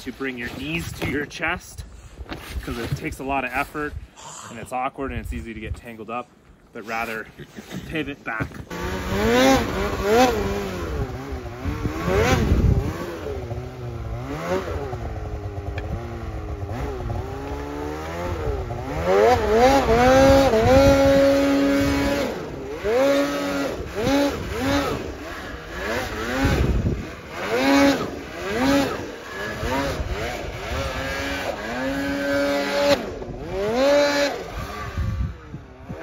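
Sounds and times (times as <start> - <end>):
snowmobile engine revving: 6.8 - 36.0.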